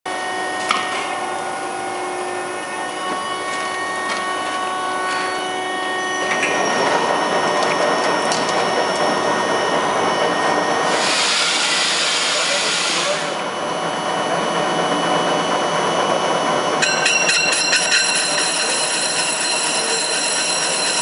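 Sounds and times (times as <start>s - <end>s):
lathe spindle whining: 0.1s - 21.0s.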